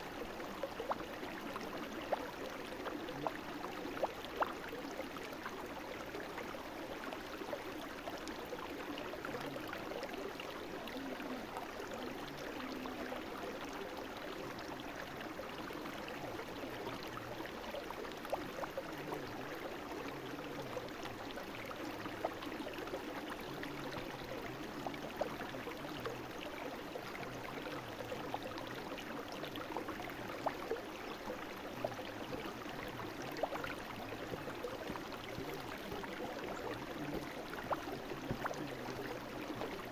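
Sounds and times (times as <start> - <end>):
brook babbling over stones: 0.0 - 39.9
small water splashes and drips: 0.0 - 39.9.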